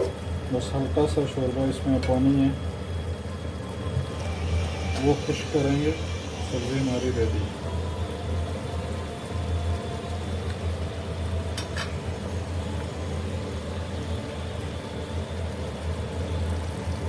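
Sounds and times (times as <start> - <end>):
curry sizzling in a pot: 0.0 - 17.0
steady low hum: 0.0 - 17.0.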